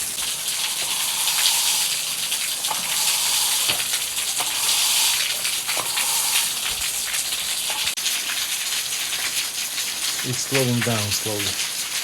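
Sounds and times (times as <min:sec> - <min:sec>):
heavy rain pouring: 0:00.0 - 0:12.0
raindrops splashing: 0:00.0 - 0:12.0.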